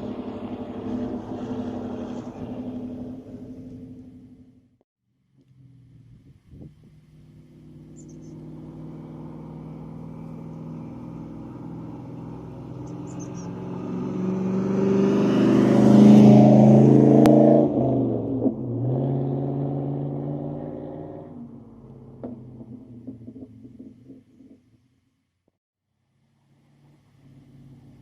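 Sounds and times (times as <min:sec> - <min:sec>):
vehicle engine passing by: 0:00.0 - 0:04.6, 0:05.5 - 0:24.6.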